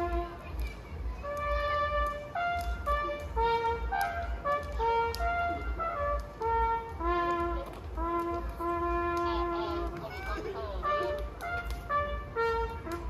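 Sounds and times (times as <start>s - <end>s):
brass band playing slow tune: 0.0s - 0.4s, 1.2s - 13.0s.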